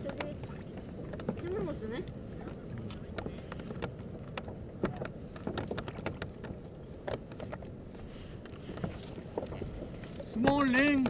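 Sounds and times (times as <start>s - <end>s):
kayak gear clicks and knocks: 0.0s - 1.6s, 2.4s - 11.0s
wind and water rumble: 0.0s - 11.0s.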